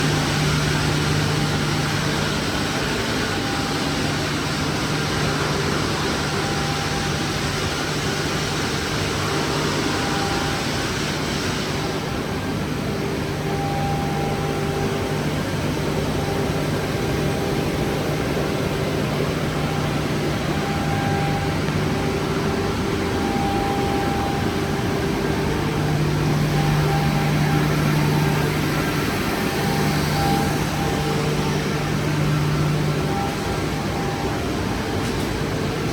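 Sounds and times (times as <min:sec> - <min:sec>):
beam saw machine hum: 0:00.0 - 0:35.9.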